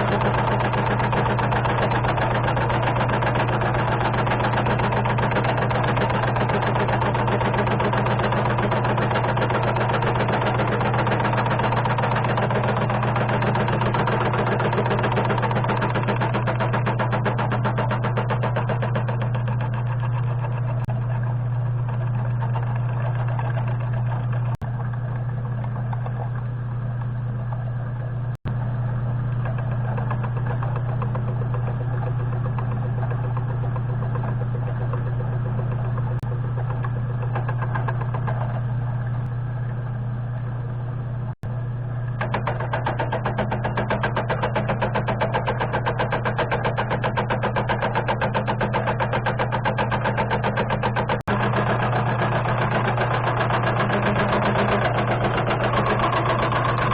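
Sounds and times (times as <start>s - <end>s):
machine tool motor hum: 0.0s - 56.9s.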